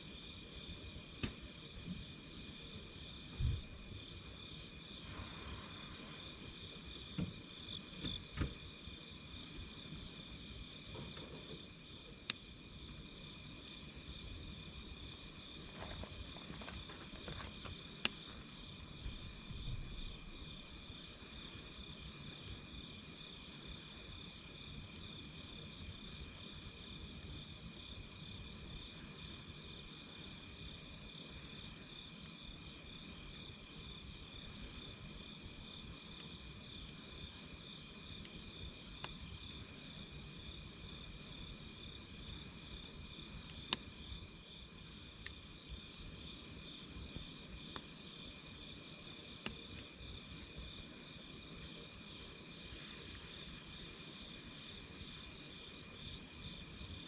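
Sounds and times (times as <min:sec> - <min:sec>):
campfire crackling and popping: 0:00.0 - 0:57.0
insects chirping: 0:00.0 - 0:57.0.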